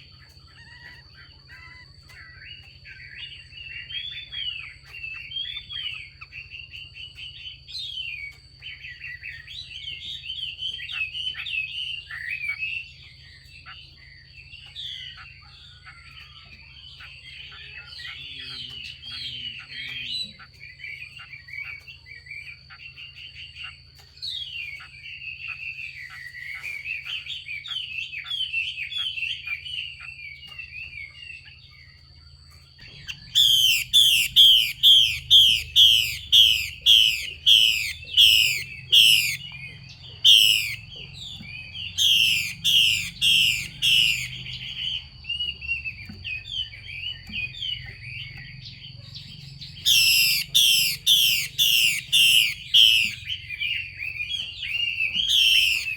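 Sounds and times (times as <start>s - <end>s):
bird twittering: 0.0s - 55.9s
sharp downward-slurred bird calls: 0.0s - 55.9s.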